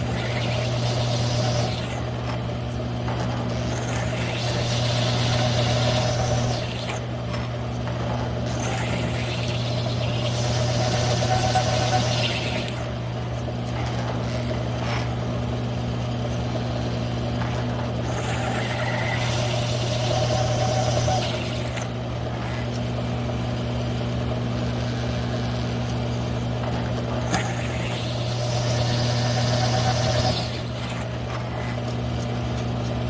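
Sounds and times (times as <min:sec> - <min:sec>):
hole saw cutting through steel: 0:00.0 - 0:15.3, 0:17.4 - 0:23.2, 0:24.9 - 0:33.0
drill motor hum: 0:00.0 - 0:33.0.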